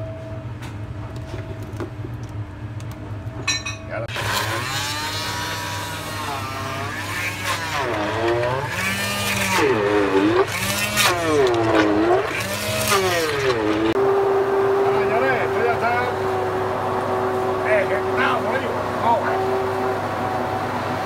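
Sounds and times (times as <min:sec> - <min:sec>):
immersion blender whining: 0:04.1 - 0:21.0.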